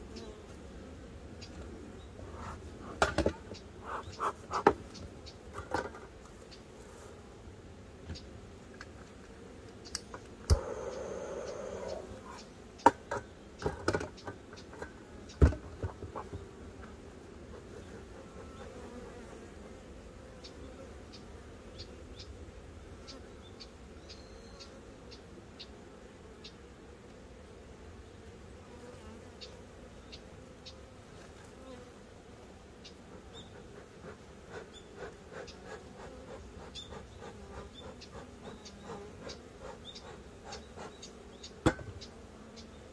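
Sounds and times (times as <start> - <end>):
honeybees buzzing: 0.0 - 42.9.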